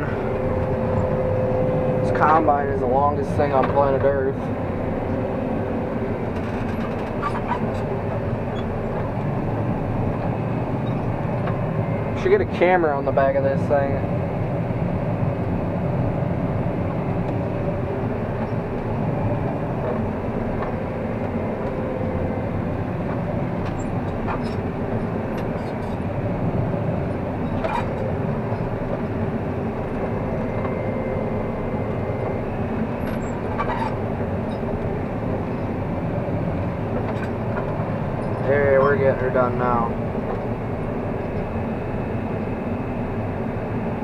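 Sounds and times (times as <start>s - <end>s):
combine harvester droning: 0.0s - 44.0s.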